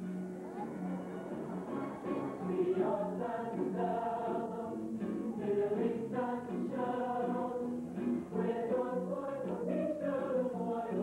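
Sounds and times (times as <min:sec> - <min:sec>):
mixed choir singing in parts: 0:01.0 - 0:11.0.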